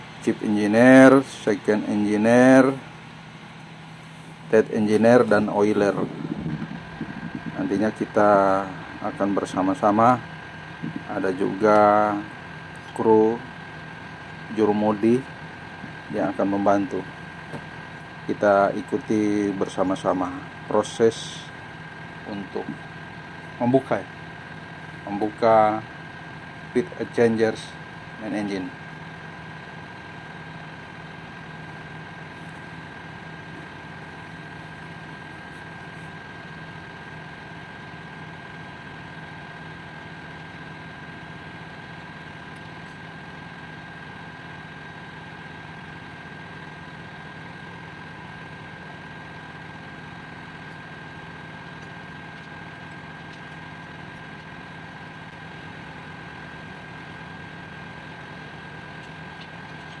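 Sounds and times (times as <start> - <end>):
engine-room machinery drone: 0.0 - 60.0.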